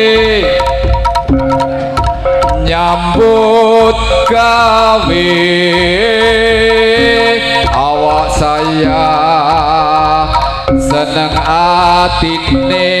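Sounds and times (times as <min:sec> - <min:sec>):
amplified instrumental accompaniment: 0:00.0 - 0:13.0
person singing long wavering notes: 0:02.6 - 0:13.0.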